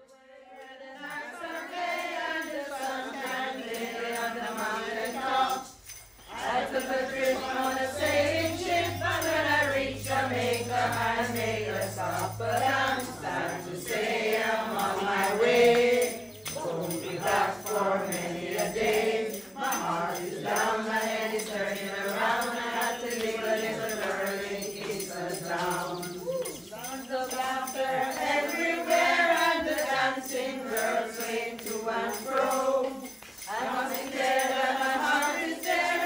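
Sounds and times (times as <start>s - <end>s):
group singing: 0.0s - 36.0s
tambourine jingling: 0.0s - 36.0s.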